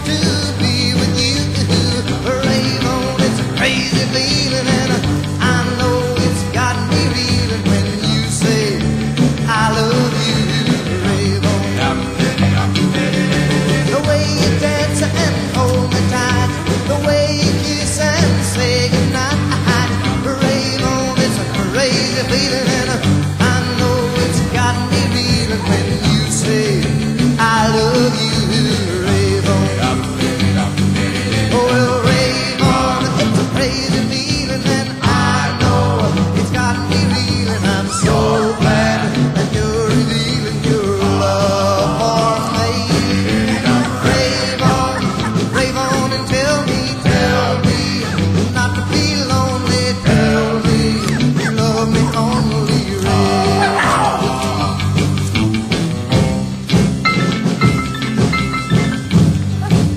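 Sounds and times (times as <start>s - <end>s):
rock and roll music: 0.0s - 59.9s.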